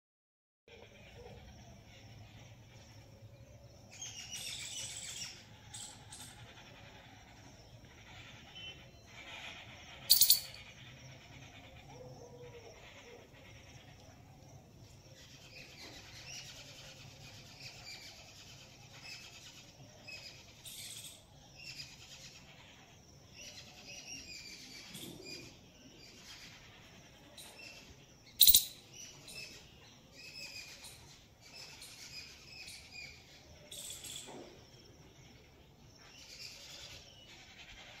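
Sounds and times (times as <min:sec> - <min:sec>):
birds chirping: 0:00.7 - 0:38.0.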